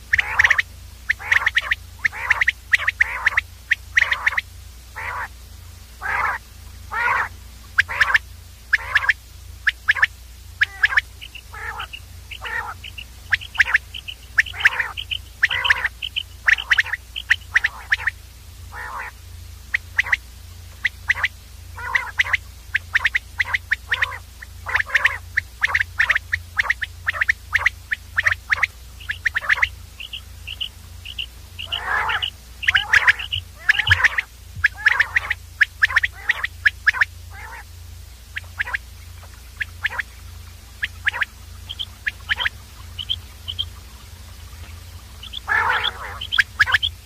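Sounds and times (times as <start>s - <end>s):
quail calling: 0.0s - 5.4s, 6.0s - 47.0s.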